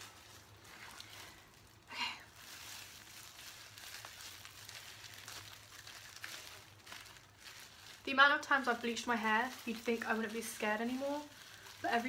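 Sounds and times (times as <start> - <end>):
wet squishing of gloved hands: 0.0 - 12.0.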